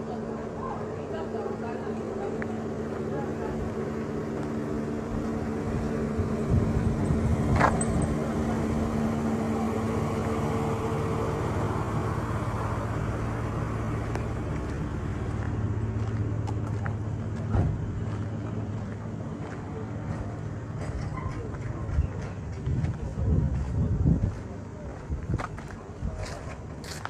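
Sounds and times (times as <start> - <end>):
road noise: 0.0 - 27.0
vehicle engine running: 0.0 - 27.0.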